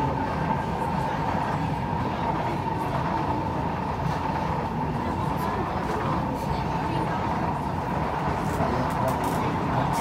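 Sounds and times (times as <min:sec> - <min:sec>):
constant whine: 0:00.0 - 0:10.0
train rumbling: 0:00.0 - 0:10.0.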